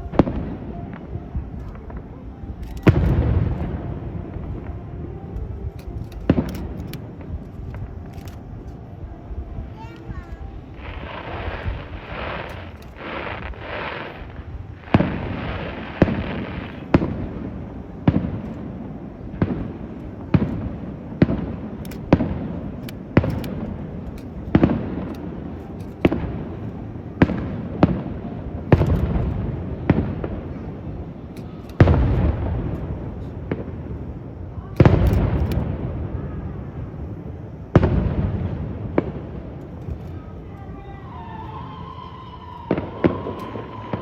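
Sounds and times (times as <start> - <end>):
fireworks shells bursting: 0.0 - 4.7, 9.8 - 34.0, 37.8 - 44.0.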